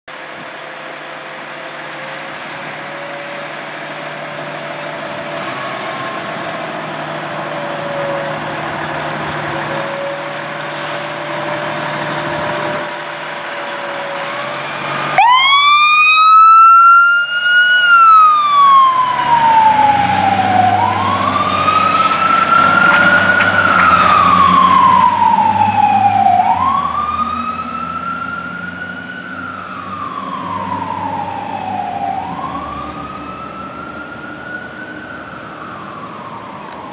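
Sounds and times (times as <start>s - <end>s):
fire engine running: 0.1s - 36.9s
siren wailing: 4.8s - 36.9s.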